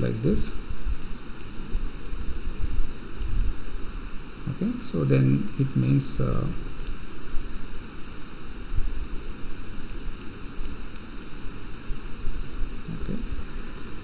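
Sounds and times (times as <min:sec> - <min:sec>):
microphone hiss and low rumble: 0:00.0 - 0:14.0.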